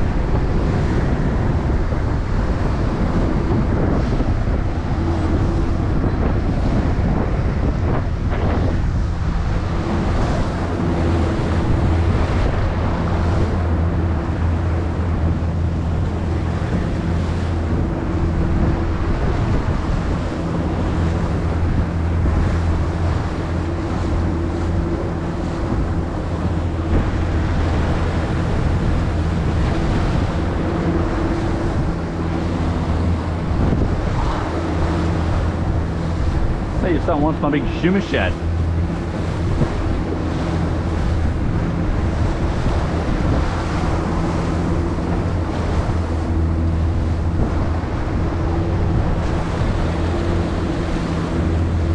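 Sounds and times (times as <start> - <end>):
boat engine hum: 0.0 - 51.9
water rushing: 0.0 - 51.9
wind buffeting microphone: 0.0 - 51.9.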